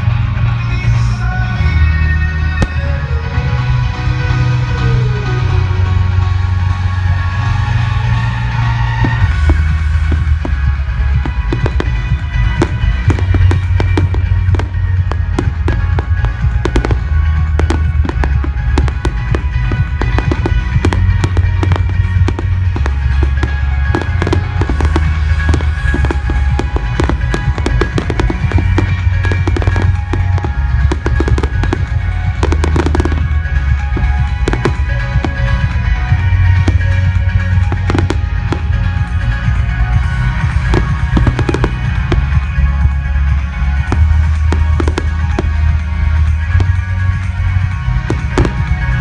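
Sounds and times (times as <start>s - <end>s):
fireworks bangs and crackles: 0.0s - 49.0s
music with heavy bass: 0.0s - 49.0s.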